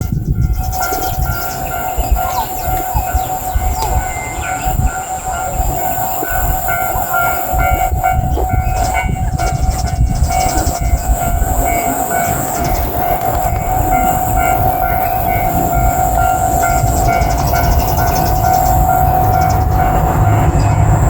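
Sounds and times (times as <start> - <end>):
low rumble: 0.0 - 21.0
level crossing warning bell: 0.3 - 21.0.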